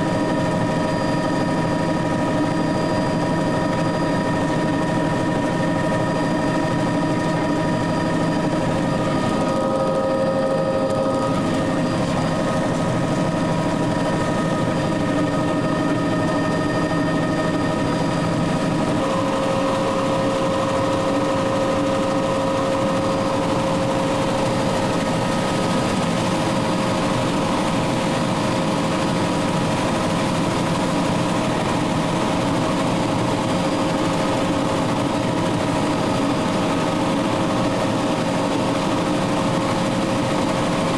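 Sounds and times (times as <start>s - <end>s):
helicopter engine drone: 0.0s - 40.9s.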